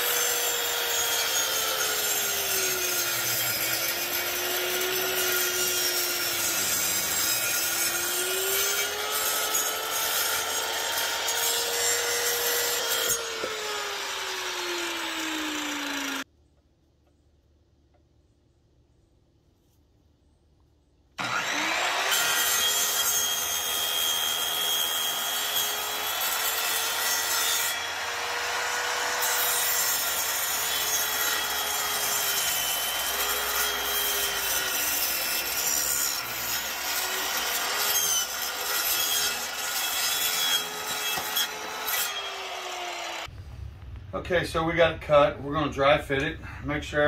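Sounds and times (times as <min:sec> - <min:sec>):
miter saw cutting vinyl slats: 0:00.0 - 0:16.2, 0:21.2 - 0:43.3.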